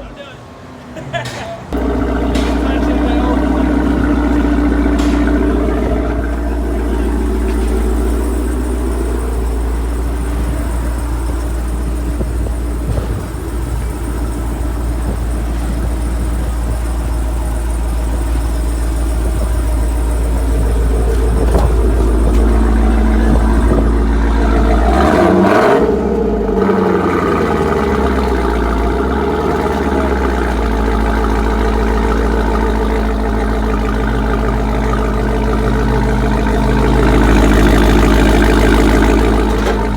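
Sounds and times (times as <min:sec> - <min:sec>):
v-eight engine idling and revving: 0:01.7 - 0:39.9.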